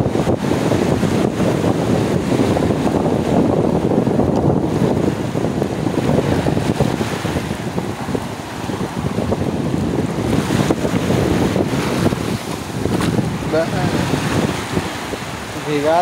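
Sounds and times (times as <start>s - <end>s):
small waves washing on sand: 0.0s - 16.0s
wind buffeting microphone: 0.0s - 16.0s.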